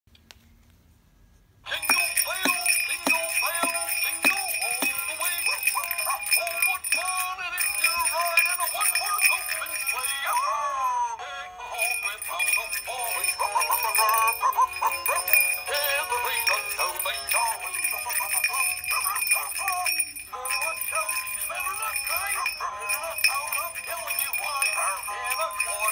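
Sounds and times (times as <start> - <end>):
toy playing sung melody: 1.7 - 25.9.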